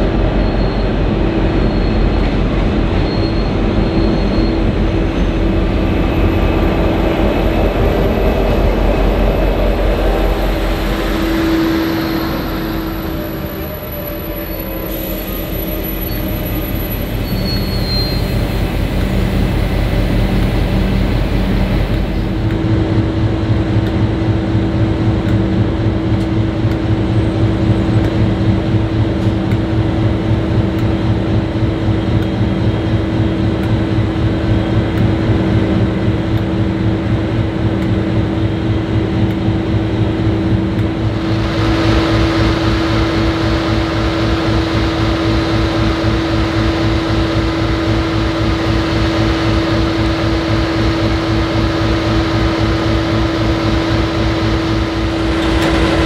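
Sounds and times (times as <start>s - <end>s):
diesel locomotive engine throbbing: 0.0s - 56.0s.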